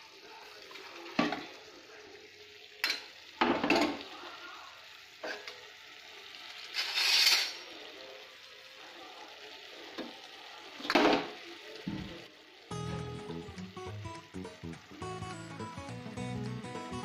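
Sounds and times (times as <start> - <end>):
faint sizzle of cooking: 0.0 - 17.0.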